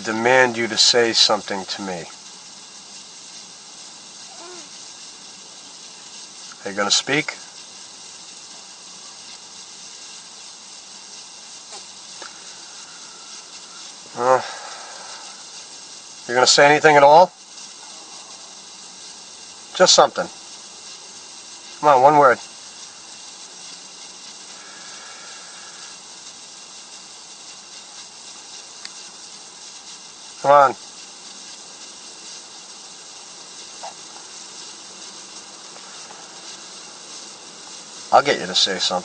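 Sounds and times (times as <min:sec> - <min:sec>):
steady background hiss: 0:00.0 - 0:39.0.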